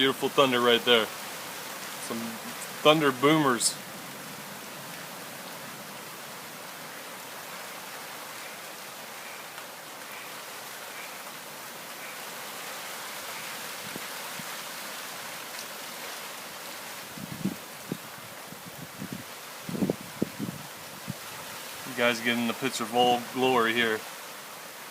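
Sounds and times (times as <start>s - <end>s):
heavy rain hissing: 0.0s - 24.9s.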